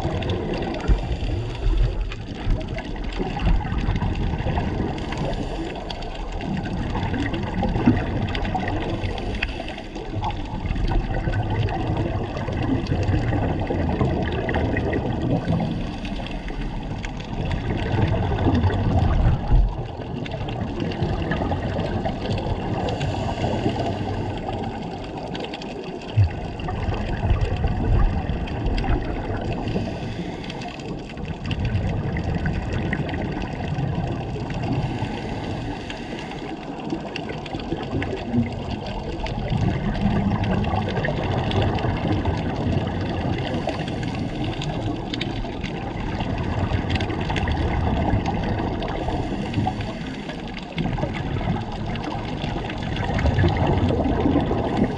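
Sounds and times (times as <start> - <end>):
muffled underwater rushing: 0.0 - 54.9.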